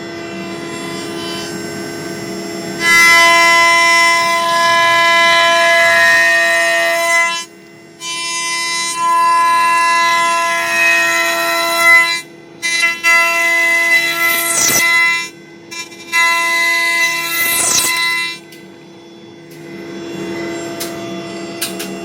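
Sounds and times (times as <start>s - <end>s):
axis motors whining: 0.0s - 11.5s, 12.1s - 18.6s
cnc spindle whining: 0.0s - 22.0s.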